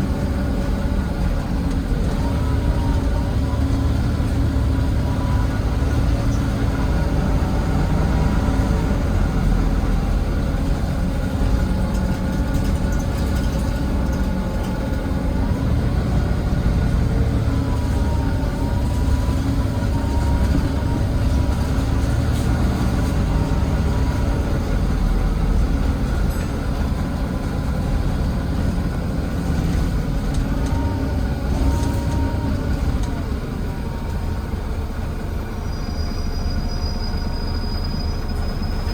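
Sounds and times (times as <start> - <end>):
bus diesel engine rumbling: 0.0 - 38.9.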